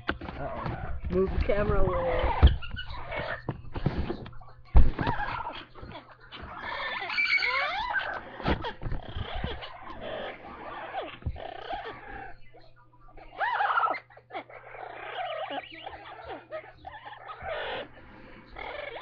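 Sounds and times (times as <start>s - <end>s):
parrots chattering and calling: 0.0s - 19.0s.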